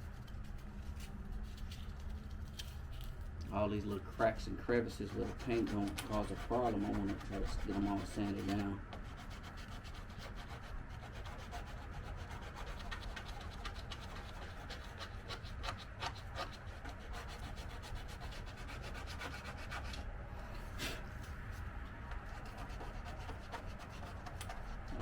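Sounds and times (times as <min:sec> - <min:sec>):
sandpaper scuffing car paint: 0:03.8 - 0:20.0, 0:20.6 - 0:25.0.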